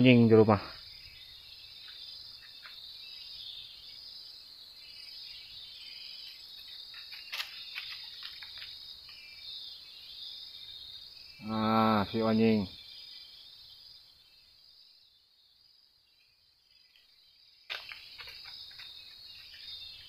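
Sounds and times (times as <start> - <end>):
chorus of forest insects: 0.0 - 20.0.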